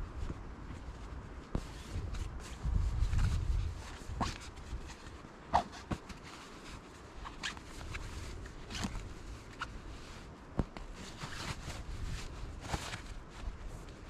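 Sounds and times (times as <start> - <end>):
fabric bag rustling: 0.6 - 14.0.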